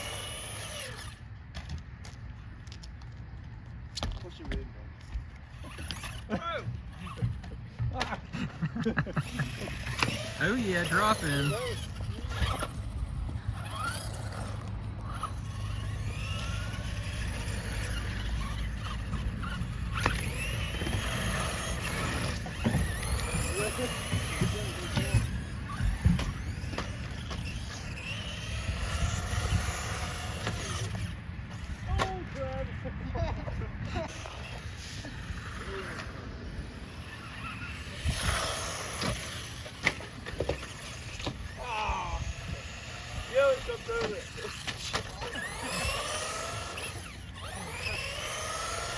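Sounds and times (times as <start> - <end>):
electric rc car motors whining: 0.0 - 48.9.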